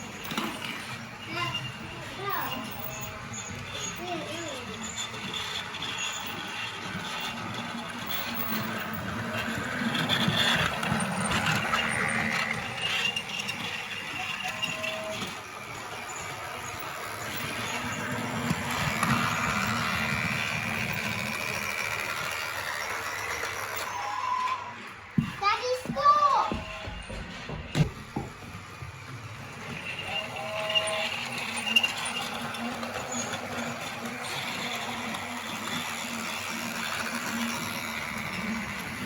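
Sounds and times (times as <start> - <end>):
toy train whirring on track: 0.0 - 39.0.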